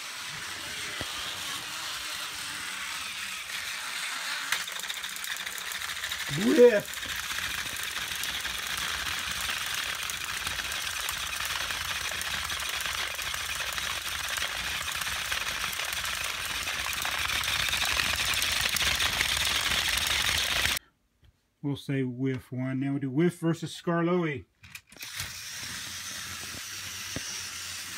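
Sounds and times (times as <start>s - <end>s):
toy train motors rattling buzz: 0.0s - 20.8s, 24.6s - 27.9s.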